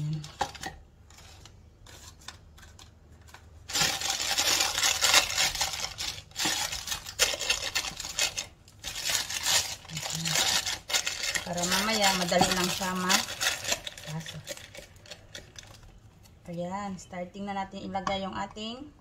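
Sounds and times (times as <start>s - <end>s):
plastic piping bag crinkling: 0.0s - 16.4s.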